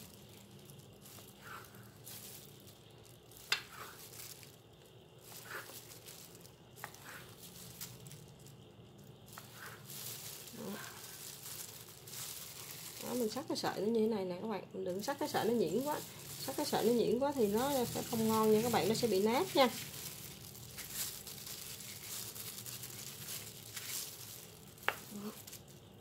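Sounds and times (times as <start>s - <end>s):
faint background hum: 0.0s - 26.0s.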